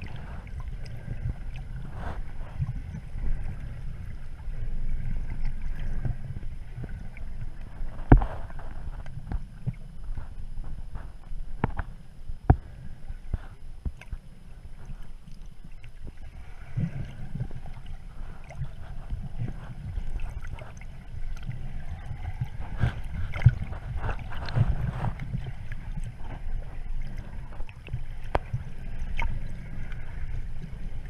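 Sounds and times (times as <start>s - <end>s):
faint high whine: 0.0s - 31.0s
muffled underwater rumble: 0.0s - 31.0s.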